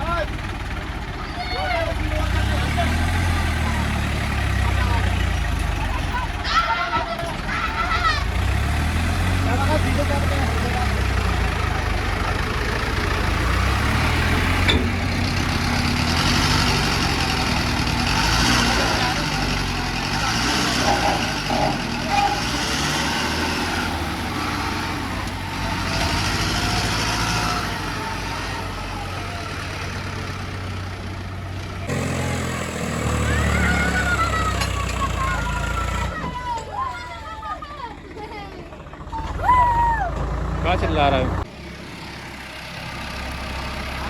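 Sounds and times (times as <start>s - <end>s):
diesel tractor engine rumbling: 0.0s - 44.0s.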